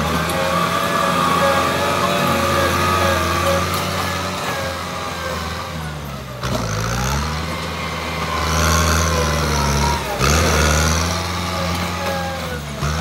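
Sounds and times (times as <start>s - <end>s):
blade pushing dirt: 0.0s - 13.0s
tractor diesel engine under load: 0.0s - 13.0s.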